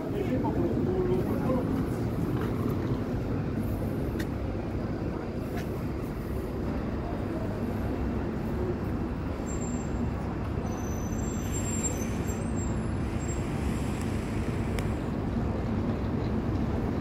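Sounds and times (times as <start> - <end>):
low rumble of city traffic: 0.0 - 17.0.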